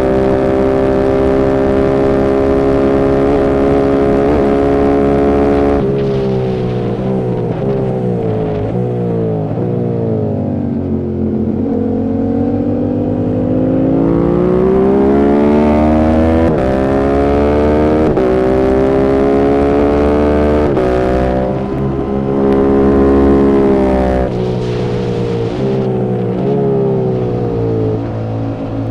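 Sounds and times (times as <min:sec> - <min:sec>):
motorcycle engine revving through gears: 0:00.0 - 0:28.9.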